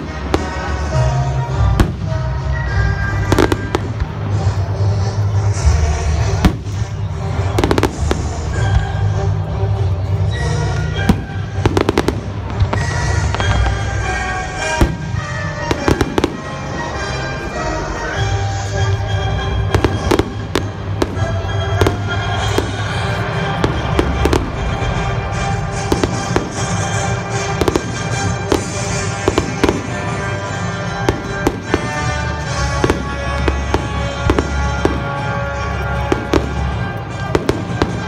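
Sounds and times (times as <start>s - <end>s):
fireworks bangs and crackles: 0.0s - 38.0s
music: 0.0s - 38.0s.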